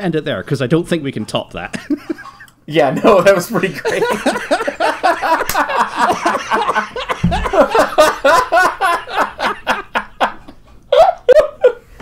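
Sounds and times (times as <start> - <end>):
men laughing: 1.7 - 12.0.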